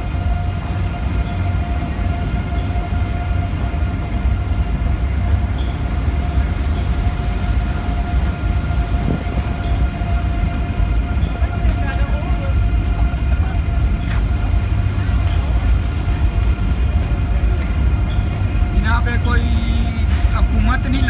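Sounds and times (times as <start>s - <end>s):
train rumbling across steel bridge: 0.0s - 21.0s.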